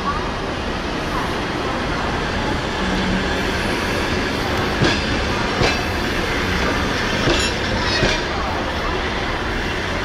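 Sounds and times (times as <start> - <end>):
train coaches rumbling: 0.0 - 10.0.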